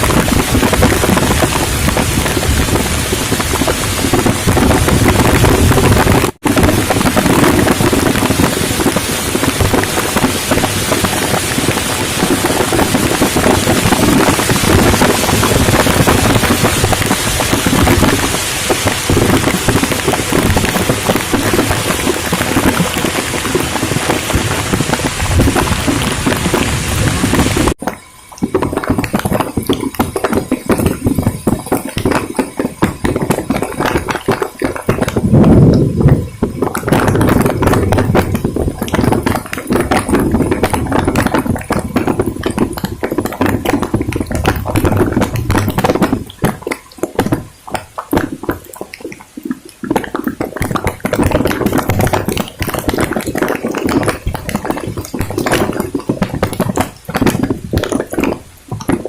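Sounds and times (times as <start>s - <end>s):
heavy rain patter: 0.0s - 59.0s
wind buffeting microphone: 0.0s - 59.0s.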